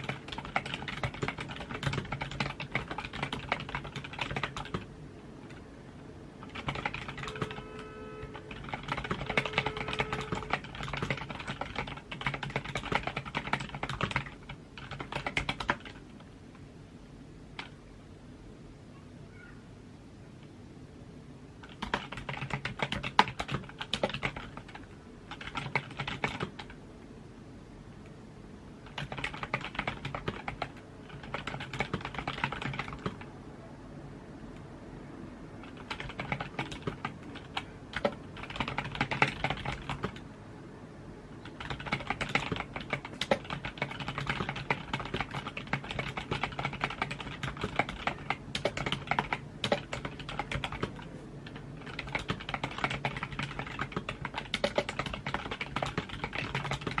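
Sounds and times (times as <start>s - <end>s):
keyboard typing: 0.0s - 5.7s, 6.4s - 16.2s, 17.6s - 17.8s, 21.6s - 26.8s, 28.8s - 33.3s, 35.6s - 40.3s, 41.4s - 57.0s.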